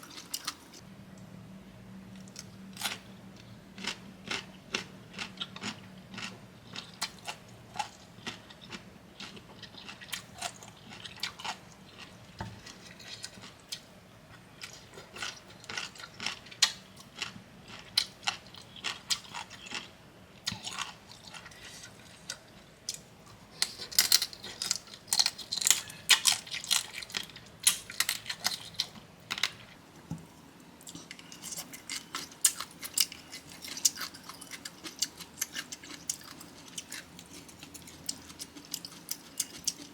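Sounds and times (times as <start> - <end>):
chewing and crunching salad: 0.0 - 0.8, 2.1 - 39.9.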